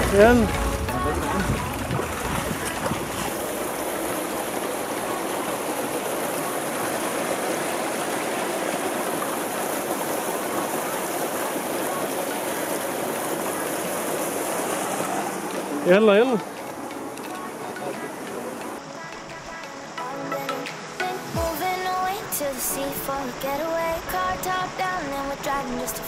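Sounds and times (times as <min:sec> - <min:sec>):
stream water running: 0:00.0 - 0:26.0.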